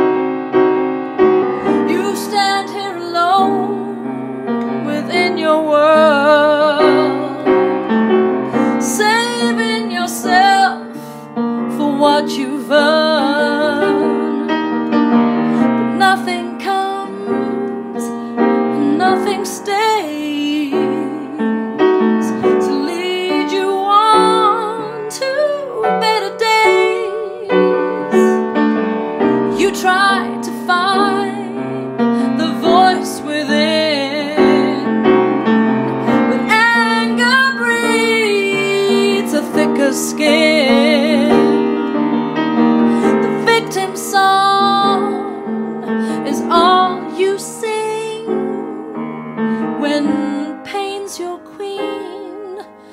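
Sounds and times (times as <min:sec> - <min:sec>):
piano accompaniment: 0:00.0 - 0:52.9
woman singing: 0:01.6 - 0:28.6, 0:29.3 - 0:52.9.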